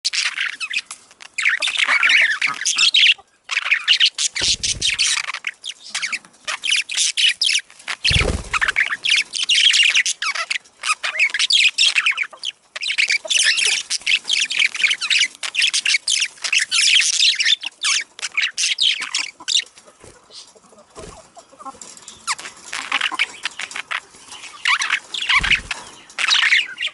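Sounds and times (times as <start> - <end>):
budgerigars chattering: 0.1 - 26.9.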